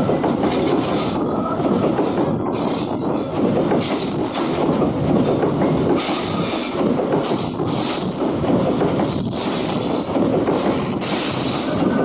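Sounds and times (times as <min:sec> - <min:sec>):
steel wheels running over rails: 0:00.0 - 0:12.0.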